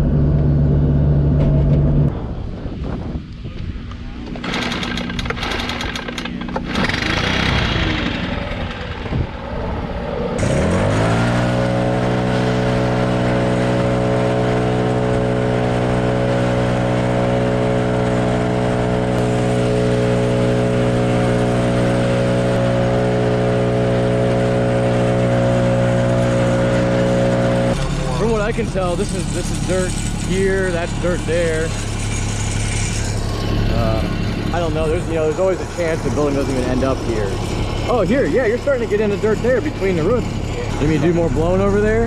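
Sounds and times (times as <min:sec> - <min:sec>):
engine revving up: 0:04.4 - 0:42.0.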